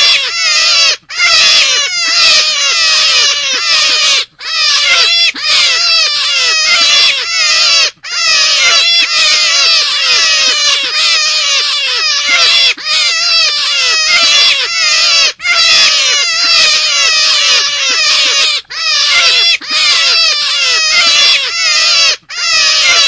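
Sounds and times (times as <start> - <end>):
rabbit squealing cries: 0.0 - 23.0.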